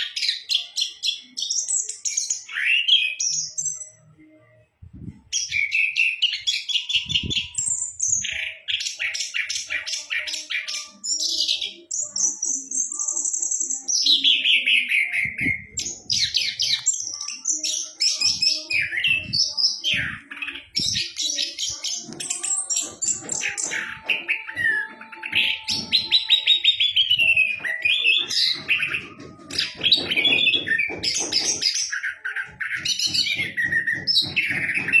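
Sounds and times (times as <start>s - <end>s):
thrush singing: 0.0s - 35.0s.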